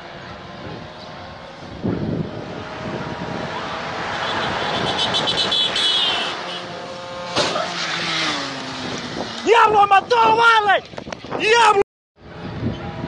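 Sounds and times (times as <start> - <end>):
vehicle passing: 0.0 - 11.1
rough outdoor noise: 0.0 - 13.0.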